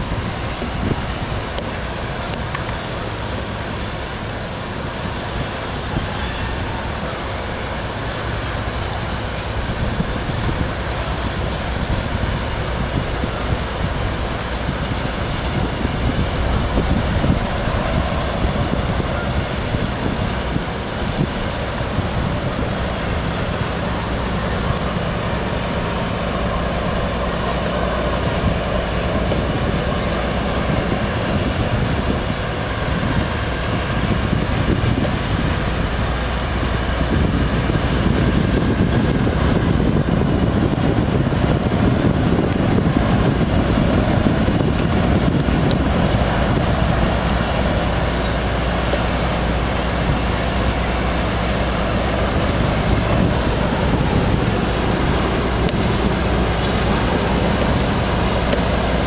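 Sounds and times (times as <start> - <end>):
ship engines rumbling: 0.0 - 59.0
wind buffeting microphone: 0.0 - 59.0.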